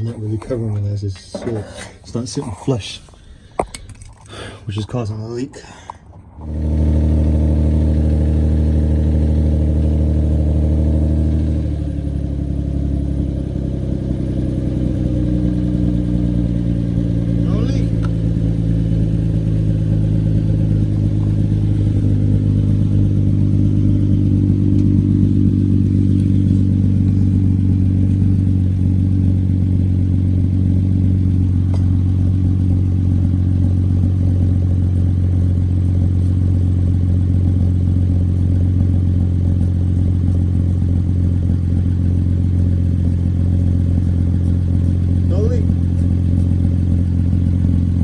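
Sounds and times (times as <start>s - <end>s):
car exhaust idling drone: 5.8s - 48.0s.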